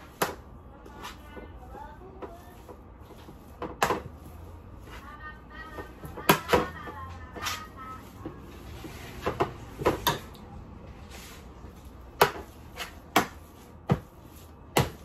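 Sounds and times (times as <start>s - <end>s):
utensil scraping a baking pan: 0.0s - 10.3s, 11.0s - 15.0s.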